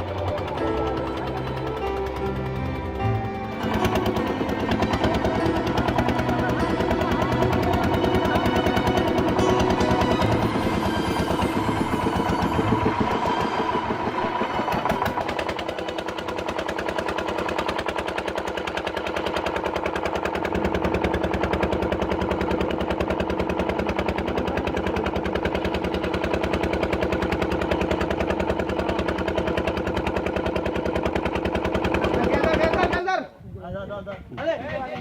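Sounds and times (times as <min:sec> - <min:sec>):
small engine chugging: 0:00.0 - 0:33.2.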